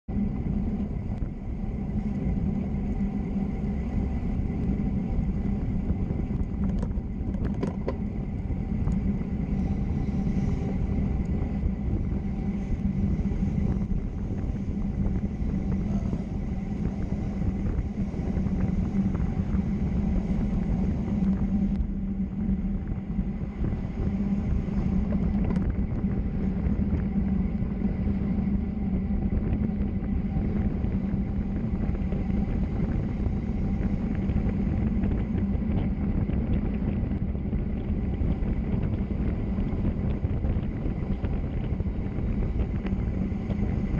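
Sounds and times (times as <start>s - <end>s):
vehicle road rumble: 0.0s - 43.9s
wind on microphone: 0.0s - 43.9s.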